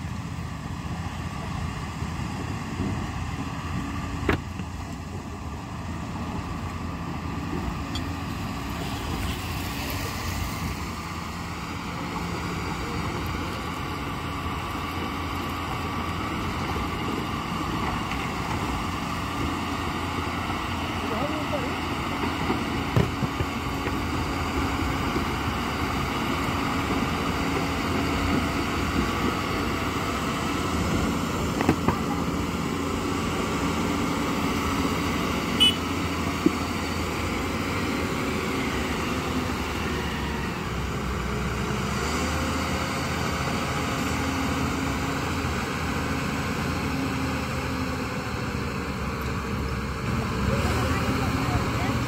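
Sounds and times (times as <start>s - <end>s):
heavy machinery diesel engine running: 0.0s - 52.0s.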